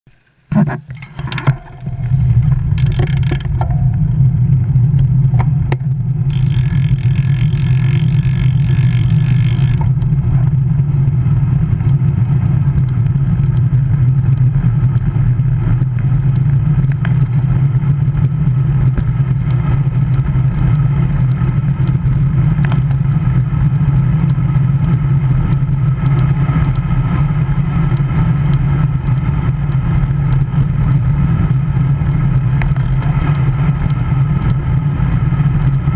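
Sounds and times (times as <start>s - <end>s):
road rumble: 0.1s - 35.9s.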